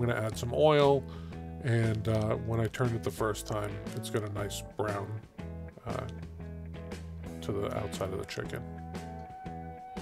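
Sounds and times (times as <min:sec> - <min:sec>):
steady bass line: 0:01.4 - 0:10.0.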